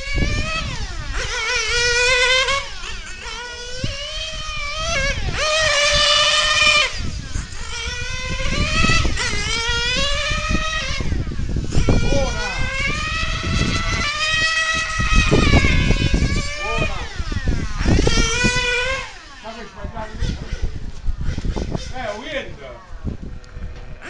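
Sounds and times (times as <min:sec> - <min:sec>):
model car engine revving high: 0:00.0 - 0:24.0.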